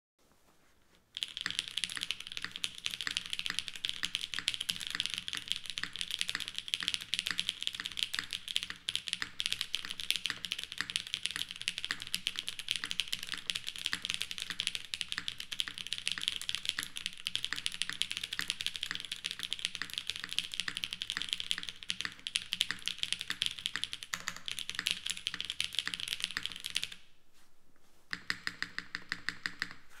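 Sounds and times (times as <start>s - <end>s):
mechanical keyboard typing: 1.2s - 27.0s, 28.2s - 29.8s.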